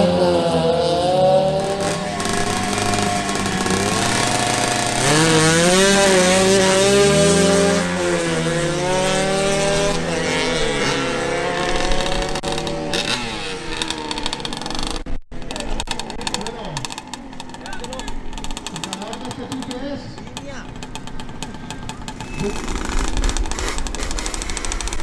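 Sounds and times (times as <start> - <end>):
motorcycles revving high: 0.0 - 25.0.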